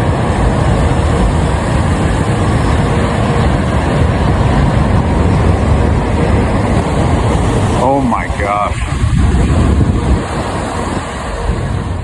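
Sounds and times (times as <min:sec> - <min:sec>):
strong wind blasting microphone: 0:00.0 - 0:12.0.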